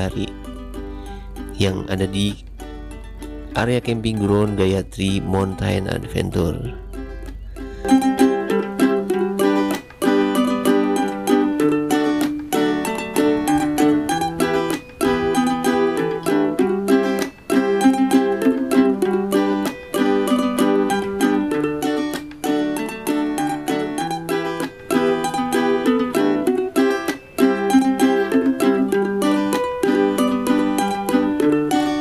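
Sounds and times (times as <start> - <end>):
plucked string music: 0.0 - 32.0.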